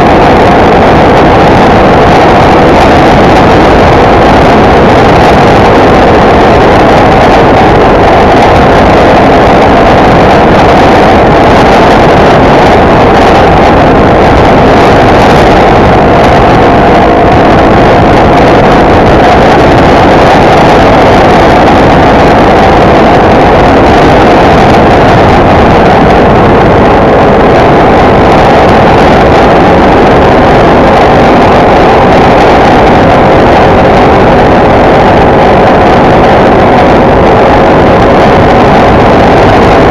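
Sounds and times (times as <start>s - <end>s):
motorcycle engine at speed: 0.0s - 39.9s
wind and road noise: 0.0s - 39.9s.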